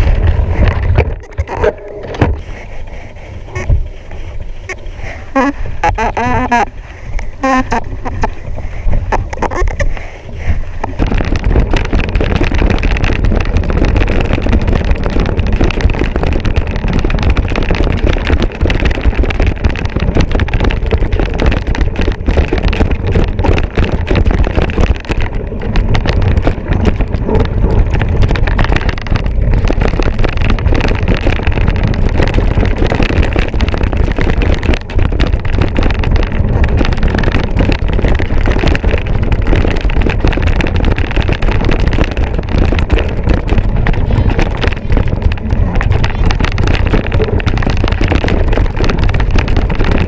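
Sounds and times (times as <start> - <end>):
mountain bike clattering and rattling: 0.0 - 50.0
wind rushing over microphone: 0.0 - 50.0.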